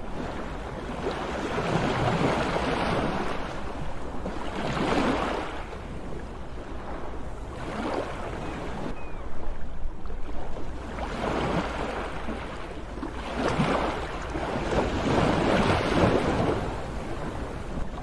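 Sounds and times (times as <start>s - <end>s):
waves breaking: 0.0s - 18.0s.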